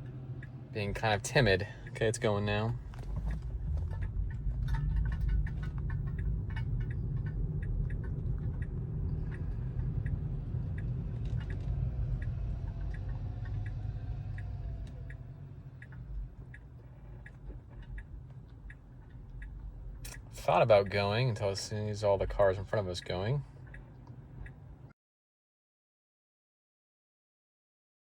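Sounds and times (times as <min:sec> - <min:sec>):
road and tyre rumble: 0:00.0 - 0:24.9
turn signal ticking: 0:00.0 - 0:24.9.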